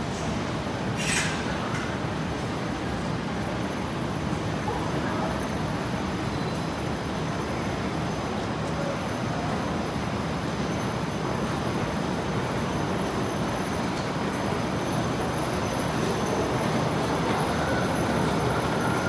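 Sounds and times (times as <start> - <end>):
subway platform hum: 0.0 - 19.0
train running on rails: 0.0 - 19.0.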